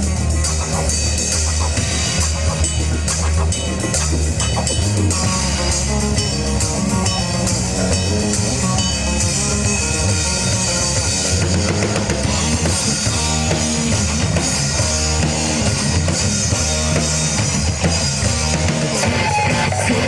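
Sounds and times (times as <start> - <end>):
drum kit: 0.0 - 20.0
rock band playing live: 0.0 - 20.0.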